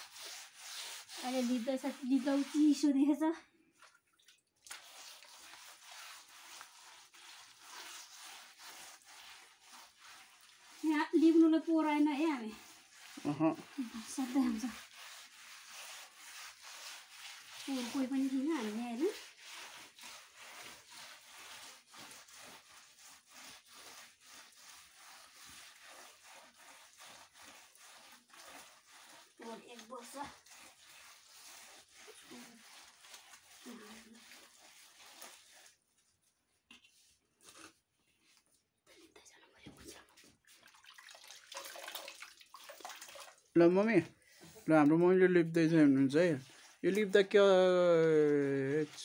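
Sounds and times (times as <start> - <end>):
hand smearing wet plaster: 0.0 - 3.1, 3.8 - 38.7, 39.8 - 49.0.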